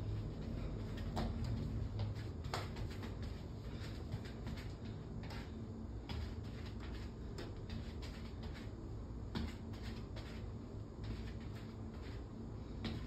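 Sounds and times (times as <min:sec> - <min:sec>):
sneakers stepping on tile floor: 0:00.0 - 0:12.2
low steady hum: 0:00.0 - 0:13.0.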